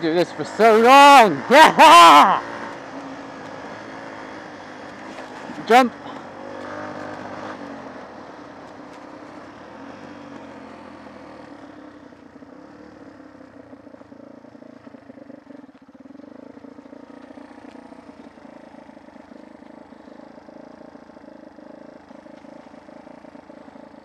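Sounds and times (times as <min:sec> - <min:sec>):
off-road motorcycle engine: 0:00.0 - 0:24.0.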